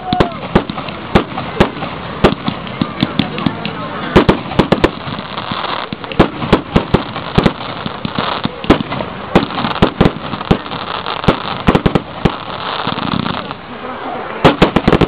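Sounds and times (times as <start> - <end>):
fireworks bangs: 0.0 - 13.7, 14.3 - 15.0
fireworks crackling: 0.0 - 15.0.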